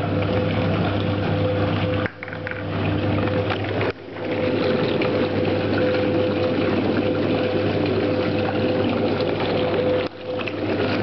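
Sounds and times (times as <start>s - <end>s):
washing machine motor humming: 0.0s - 11.0s
water churning in tub: 0.0s - 11.0s.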